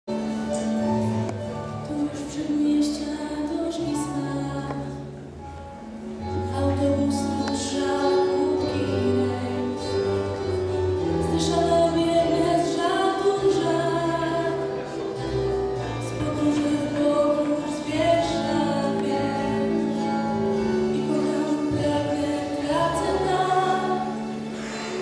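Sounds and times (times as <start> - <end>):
instrumental backing over loudspeakers: 0.1 - 25.0.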